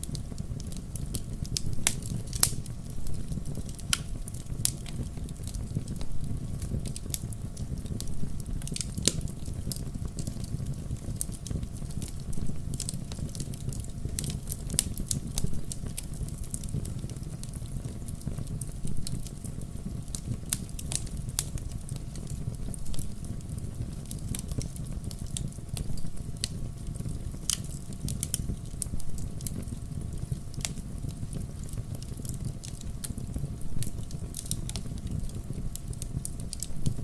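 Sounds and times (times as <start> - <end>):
campfire burning: 0.0 - 37.0
crackles and pops of burning logs: 0.0 - 37.0.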